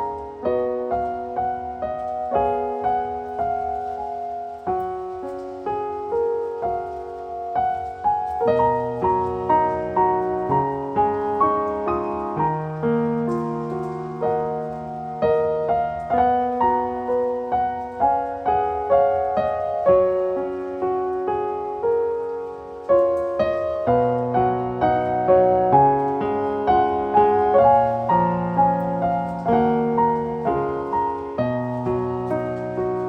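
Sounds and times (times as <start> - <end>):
gentle solo piano music: 0.0 - 33.0.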